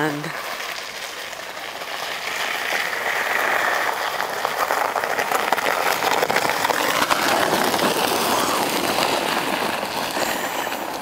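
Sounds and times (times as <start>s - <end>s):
sled scraping over icy snow: 0.0s - 11.0s.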